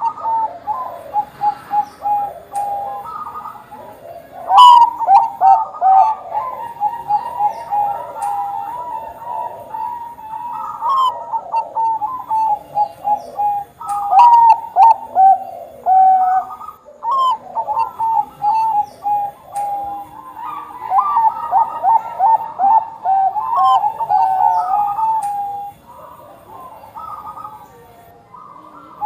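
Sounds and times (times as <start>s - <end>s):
doves cooing: 0.0s - 29.0s.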